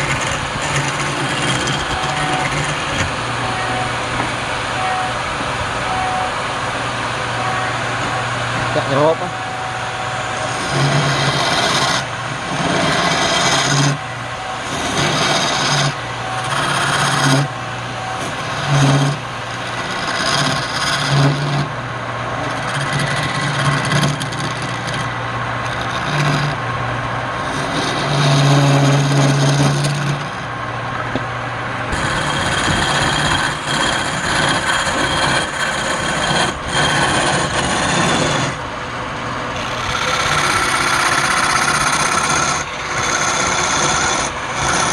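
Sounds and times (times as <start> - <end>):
lathe tool scraping wood: 0.0 - 30.6, 31.9 - 44.9
lathe motor hum: 0.0 - 44.9.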